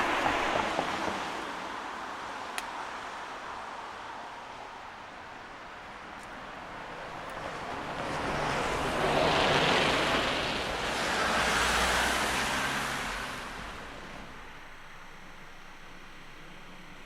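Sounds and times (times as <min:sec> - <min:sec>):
vehicles passing close by: 0:00.0 - 0:17.0.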